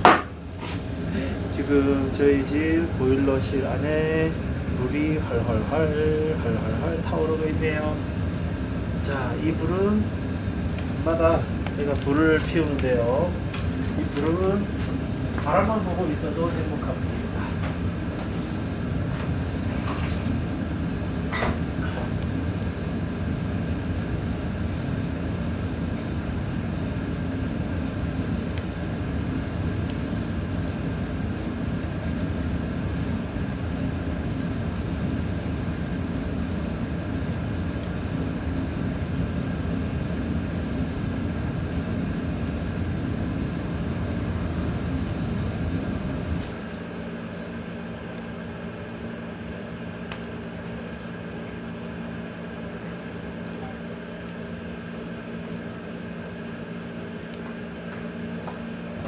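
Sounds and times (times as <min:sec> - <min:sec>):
burning logs crackling and popping: 0:00.0 - 0:59.0
fire roaring in firebox: 0:00.0 - 0:59.0.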